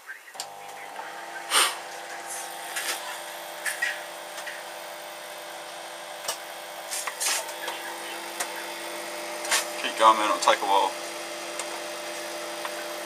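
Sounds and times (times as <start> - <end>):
microwave oven hum: 0.3 - 13.0.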